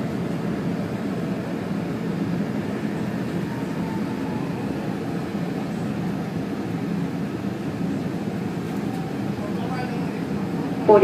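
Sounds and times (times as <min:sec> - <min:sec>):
train running on track: 0:00.0 - 0:11.0.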